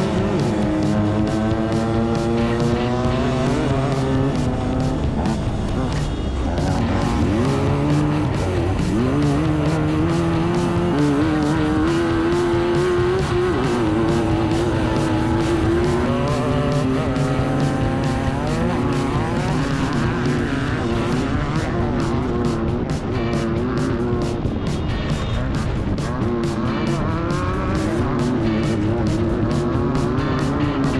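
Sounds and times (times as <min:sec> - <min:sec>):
buggy engine revving: 0:00.0 - 0:30.9.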